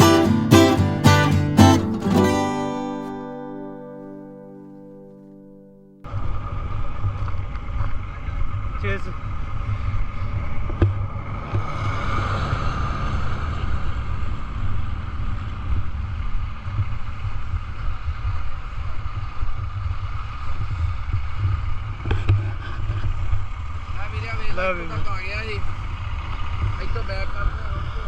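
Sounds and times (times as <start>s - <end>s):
truck engine rumbling: 0.0s - 4.1s, 6.0s - 28.0s.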